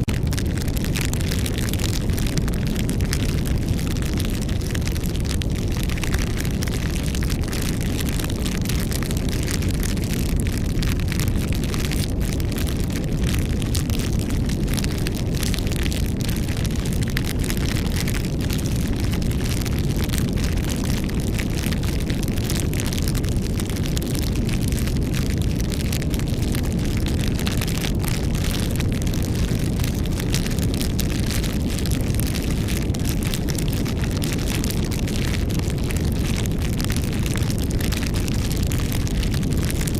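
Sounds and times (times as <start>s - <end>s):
campfire flames rumbling: 0.0s - 39.9s
fire crackling: 0.0s - 39.9s.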